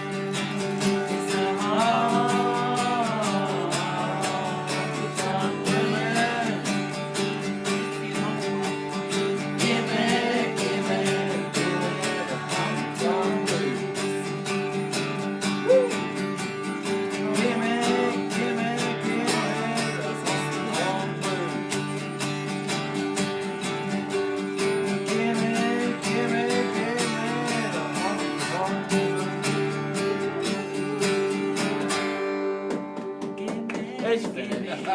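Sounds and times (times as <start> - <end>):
acoustic guitar country music: 0.0 - 34.9.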